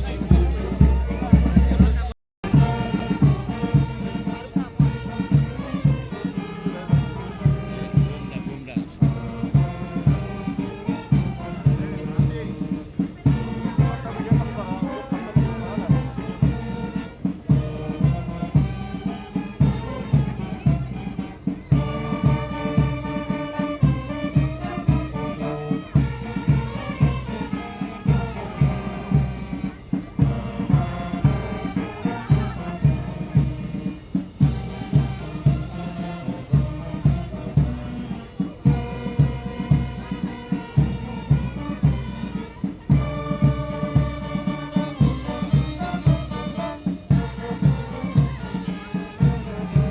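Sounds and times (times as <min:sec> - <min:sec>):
brass instruments playing melody: 0:00.0 - 0:49.9
steady drum beat: 0:00.0 - 0:49.9.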